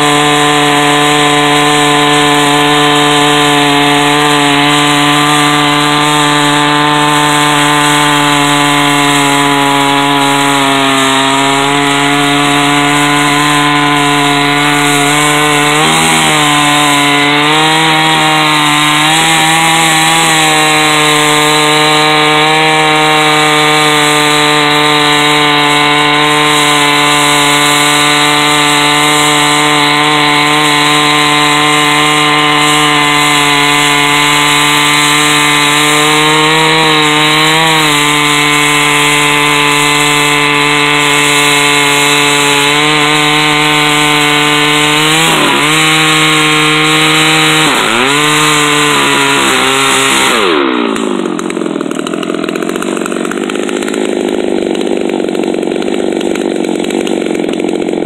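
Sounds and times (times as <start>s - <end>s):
chainsaw ripping a log: 0.0s - 58.0s.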